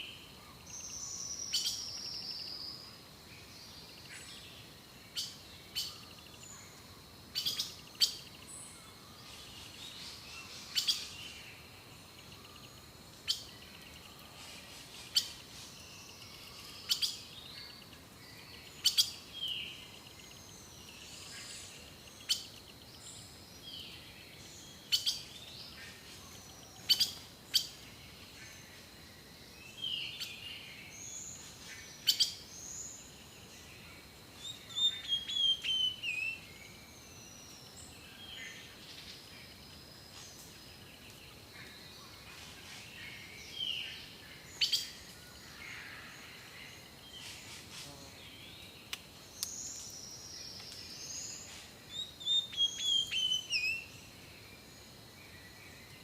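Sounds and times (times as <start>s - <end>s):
birds calling and singing: 0.0s - 56.0s.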